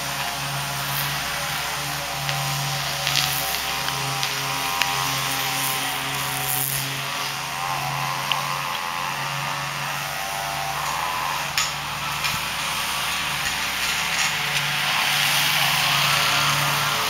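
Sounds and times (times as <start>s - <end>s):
lawn mower engine drone: 0.0s - 17.0s.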